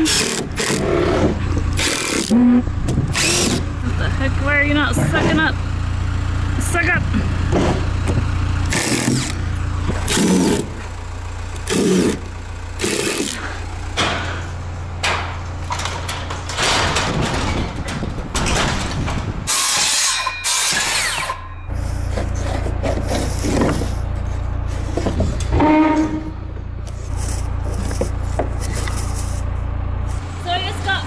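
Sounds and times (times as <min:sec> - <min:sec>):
forklift engine idling hum: 0:00.0 - 0:31.0.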